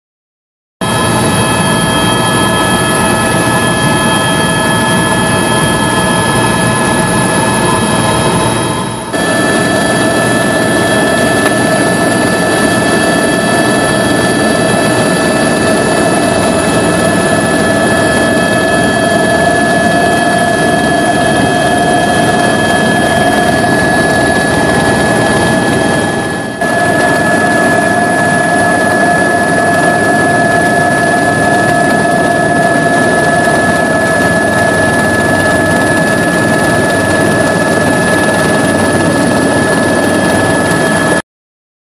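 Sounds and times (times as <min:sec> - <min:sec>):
helicopter engine and rotor drone: 0:00.8 - 0:41.2.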